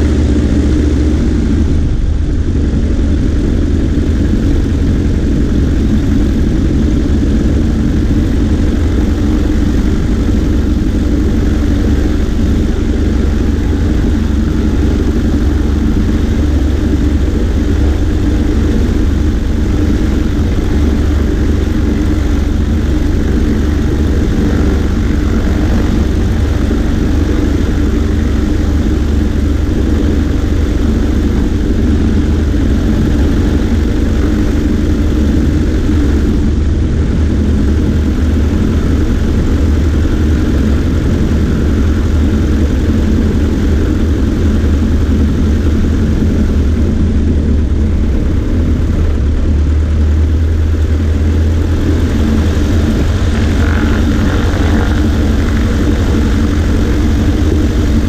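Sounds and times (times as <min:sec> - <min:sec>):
airplane engine drone: 0:00.0 - 0:58.0
wind rush on microphone: 0:00.0 - 0:58.0.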